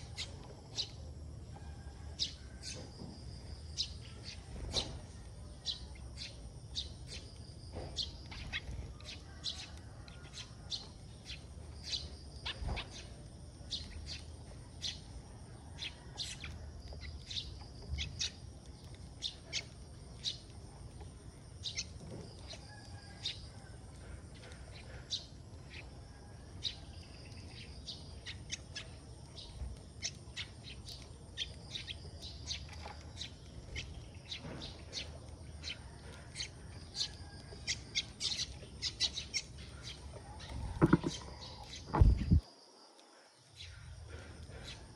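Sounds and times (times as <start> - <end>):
sparrows chirping: 0.0 - 42.4, 43.4 - 44.9.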